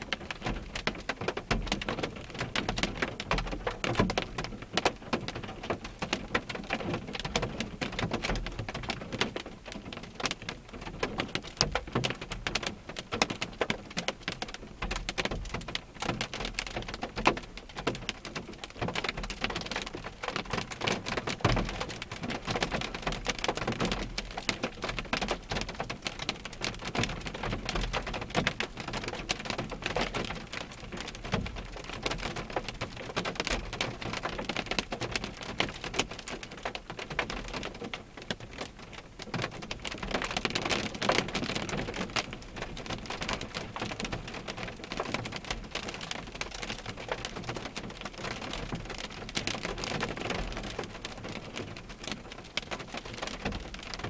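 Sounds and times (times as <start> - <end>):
rain on car windshield: 0.0 - 54.0.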